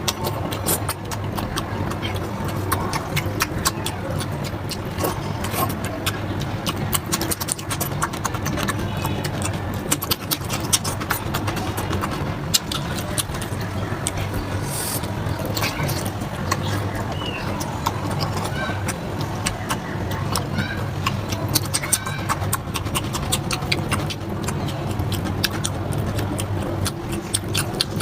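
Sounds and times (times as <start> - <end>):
chewing and wet mouth smacking: 0.0 - 28.0.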